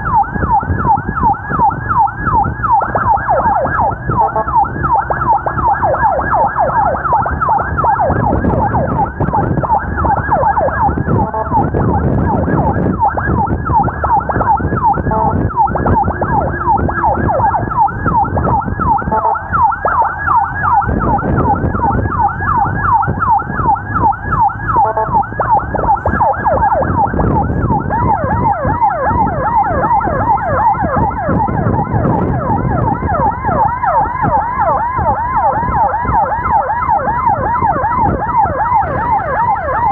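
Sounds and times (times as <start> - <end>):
emergency siren yelping: 0.0 - 39.9
vehicle and road noise: 0.0 - 39.9.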